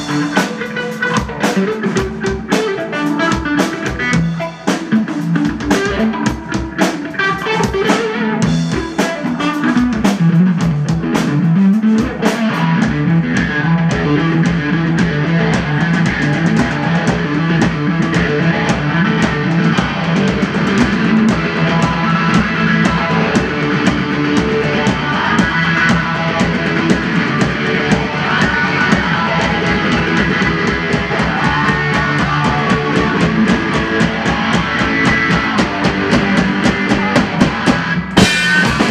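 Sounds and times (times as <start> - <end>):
drum kit playing loudly: 0.0 - 38.9
electric guitar: 0.0 - 38.9.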